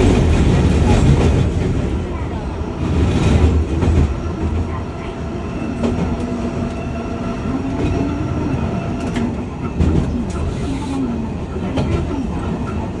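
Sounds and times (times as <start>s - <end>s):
streetcar rumbling along track: 0.0s - 13.0s.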